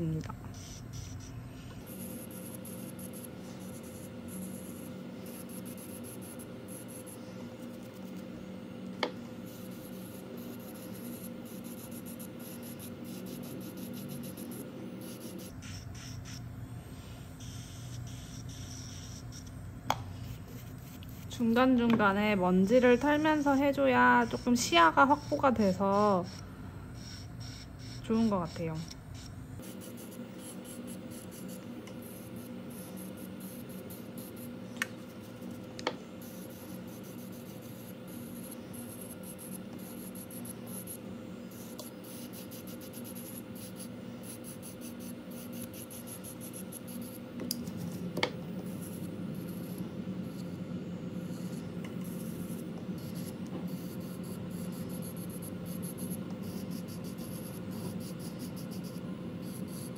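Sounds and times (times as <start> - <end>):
electric nail drill grinding: 0.0 - 8.3, 9.0 - 59.9.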